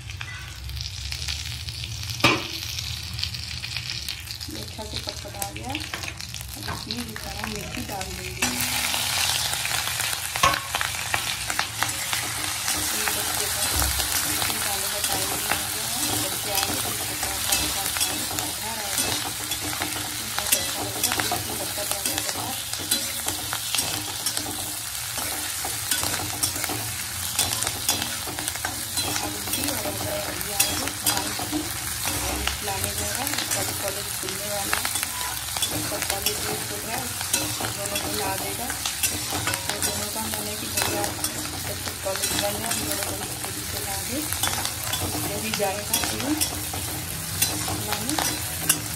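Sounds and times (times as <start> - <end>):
chillies sizzling in hot oil: 0.0 - 48.9.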